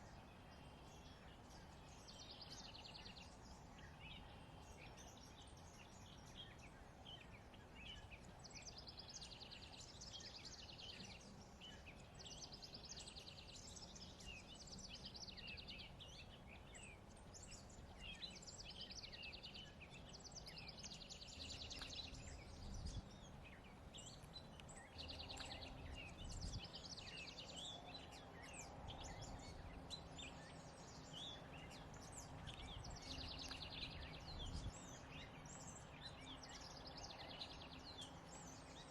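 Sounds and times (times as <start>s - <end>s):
songbirds trilling: 0.0s - 38.9s.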